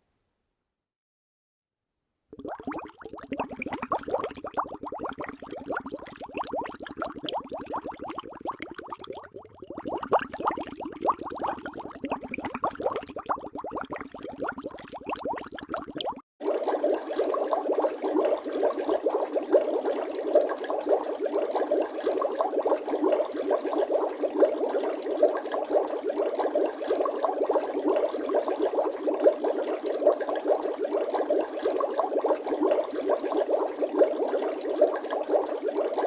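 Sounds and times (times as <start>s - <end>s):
water bubbling: 2.4s - 36.0s.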